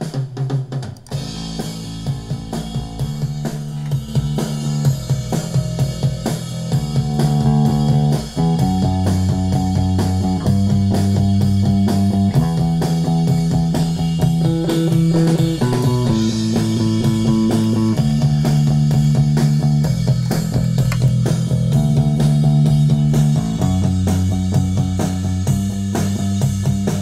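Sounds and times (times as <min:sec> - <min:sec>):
rock drum beat: 0:00.0 - 0:27.0
electric bass long notes: 0:01.0 - 0:27.0.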